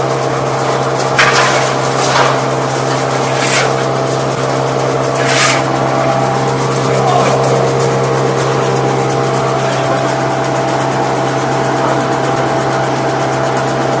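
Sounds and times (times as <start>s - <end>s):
wood chipper humming: 0.0s - 14.0s.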